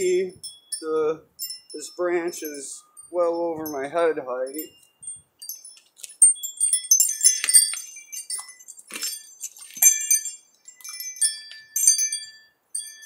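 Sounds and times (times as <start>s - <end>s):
wind chime ringing: 0.0s - 13.0s.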